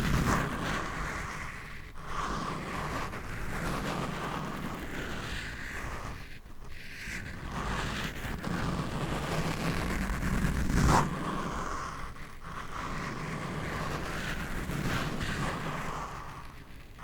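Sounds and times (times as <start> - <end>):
scratching on microphone: 0.0 - 17.0.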